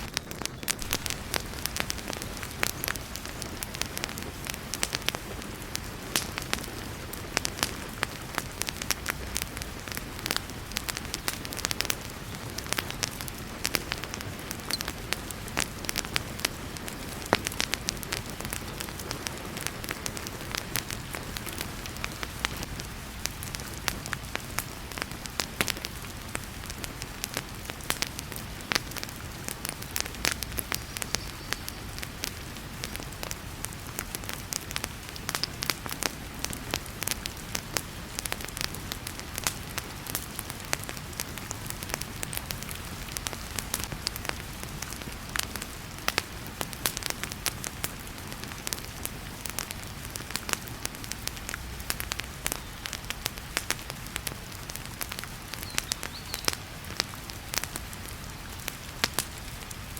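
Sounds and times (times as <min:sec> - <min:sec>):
heavy rain hiss: 0:00.0 - 0:59.9
wood fire crackling and popping: 0:00.0 - 0:59.9.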